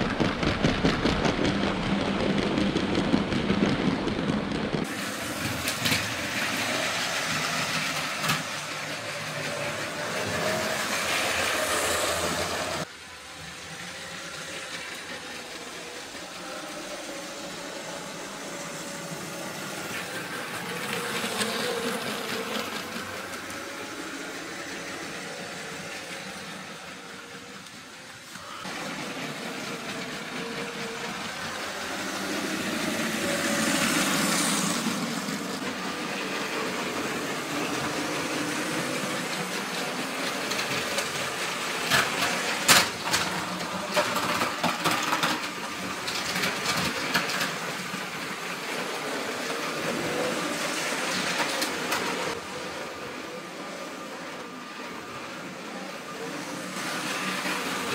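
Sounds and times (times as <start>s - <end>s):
wheels rolling on plastic track: 0.0s - 57.9s
toy train motor whine: 4.9s - 57.9s.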